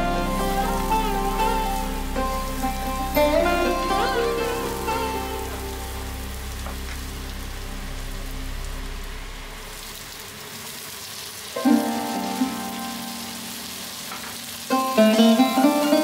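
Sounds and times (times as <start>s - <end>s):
plucked-string background music: 0.0s - 10.1s, 11.6s - 16.0s
garlic sizzling in hot oil: 0.0s - 16.0s.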